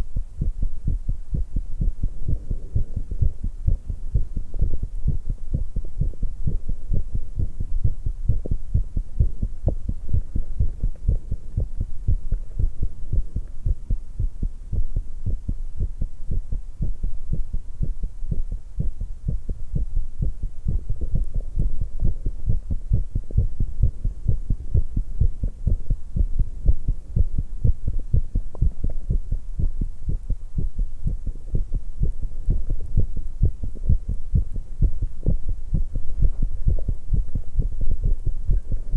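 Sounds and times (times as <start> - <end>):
fast heartbeat thumps: 0.0 - 38.9.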